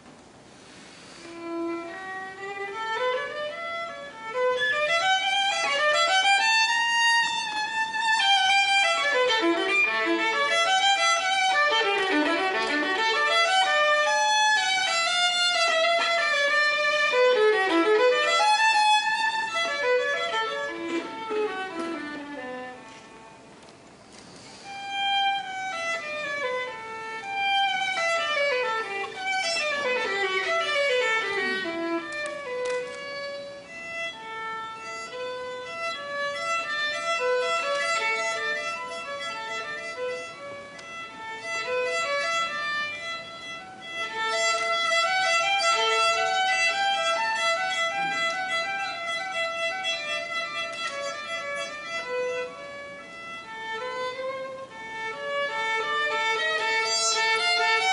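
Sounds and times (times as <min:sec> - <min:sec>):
solo violin: 0:00.0 - 0:57.9.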